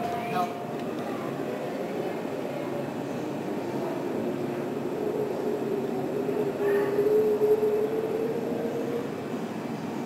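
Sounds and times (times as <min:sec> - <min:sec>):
machinery drone: 0:00.0 - 0:10.0.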